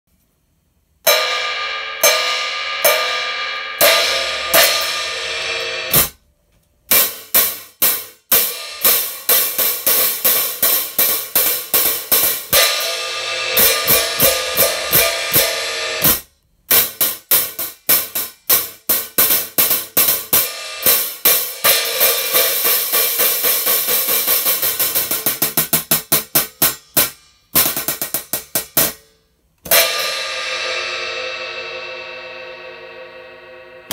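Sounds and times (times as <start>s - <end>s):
hi-hat cymbals struck with drumstick: 1.1s - 6.2s, 6.9s - 33.9s.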